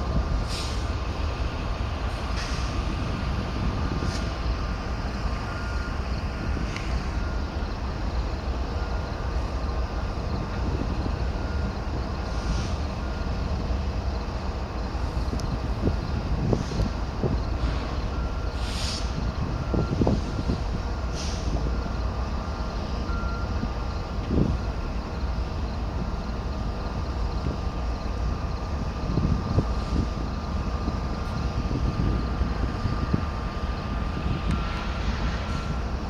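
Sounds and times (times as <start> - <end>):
locomotive engines rumbling: 0.0 - 36.0.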